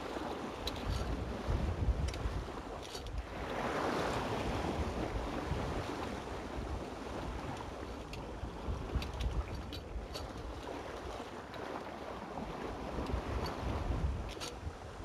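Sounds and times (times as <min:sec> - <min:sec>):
water splashing along boat hull: 0:00.0 - 0:15.0
wind buffeting microphone: 0:00.0 - 0:15.0.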